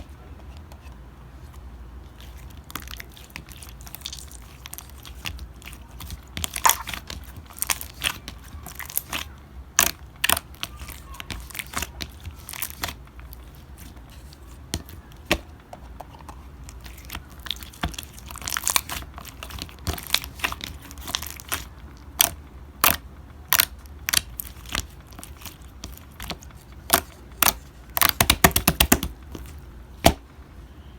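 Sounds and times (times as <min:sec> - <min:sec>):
slime clicking and popping: 0:02.5 - 0:13.8, 0:14.7 - 0:30.2.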